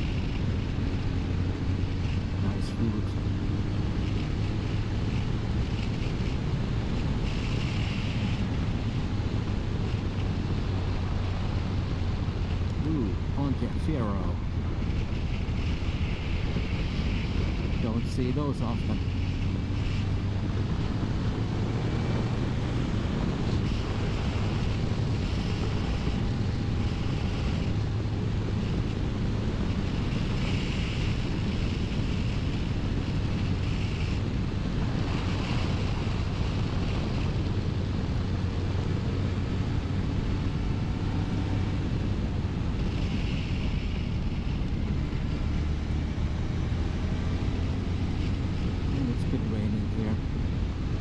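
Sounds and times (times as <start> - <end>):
motorcycle engine cruising: 0.0 - 51.0
wind noise on microphone: 0.0 - 51.0.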